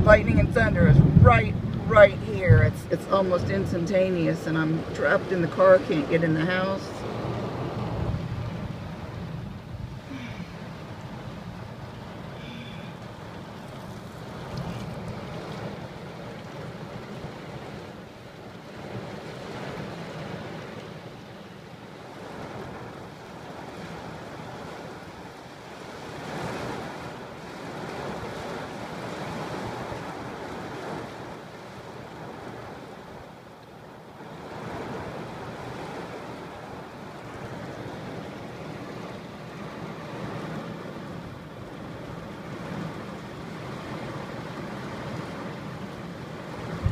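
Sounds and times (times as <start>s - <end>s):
heavy rain pouring on car: 0.0s - 34.2s, 34.8s - 46.9s.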